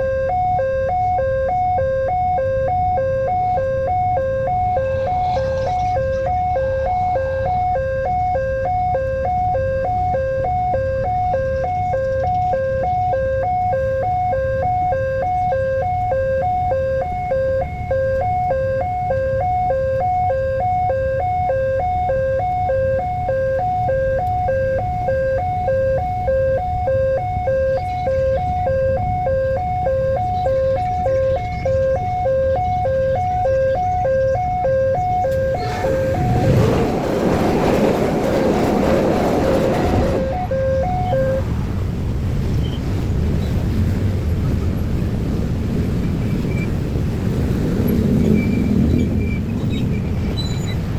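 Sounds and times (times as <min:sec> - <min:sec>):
level crossing alarm chime: 0:00.0 - 0:41.5.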